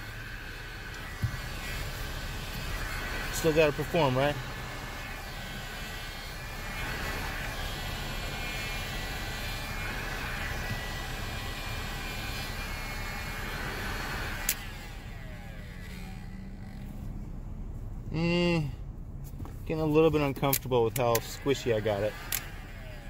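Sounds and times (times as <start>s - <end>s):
heat gun blowing air: 0.0s - 16.9s, 20.0s - 23.0s
fan winding down: 0.0s - 17.3s, 19.7s - 23.0s.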